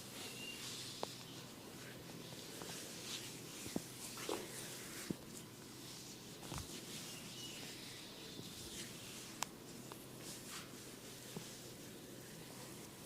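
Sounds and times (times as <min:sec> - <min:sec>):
hands and comb rustling on hair: 0:00.0 - 0:13.0.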